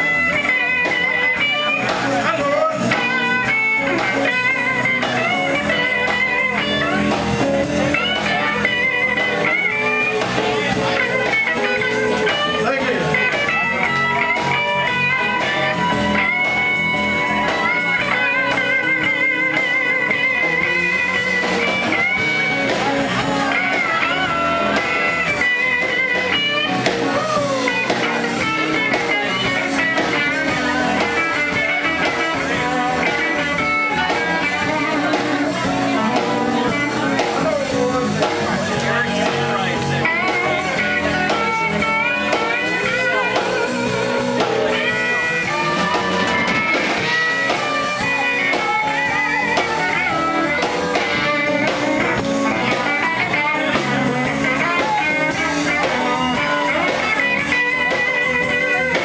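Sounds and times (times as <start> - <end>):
bending guitar lead notes: 0.0 - 59.0
electric blues band playing: 0.0 - 59.0.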